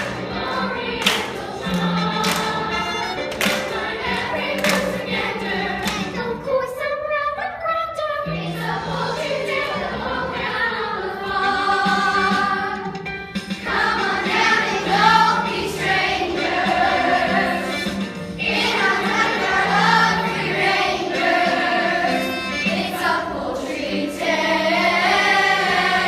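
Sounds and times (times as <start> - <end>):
chorus singing: 0.0 - 6.2, 8.3 - 26.0
instrumental accompaniment: 0.0 - 6.7, 8.3 - 26.0.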